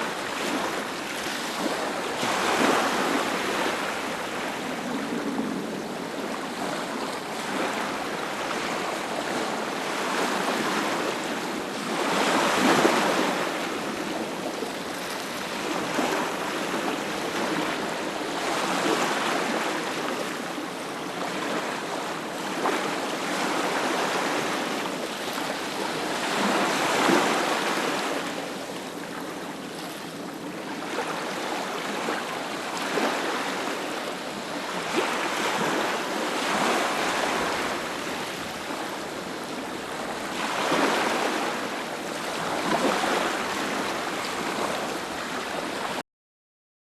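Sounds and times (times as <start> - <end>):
ocean waves breaking: 0.0 - 46.0.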